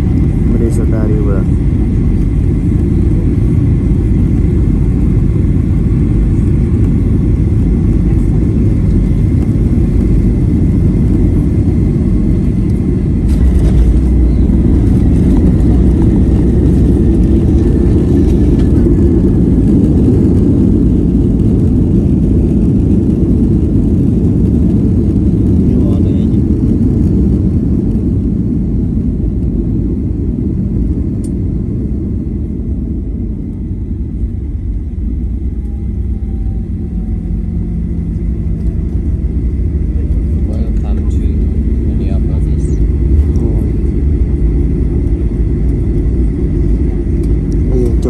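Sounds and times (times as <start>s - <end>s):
airplane cabin engine rumble: 0.0s - 48.0s.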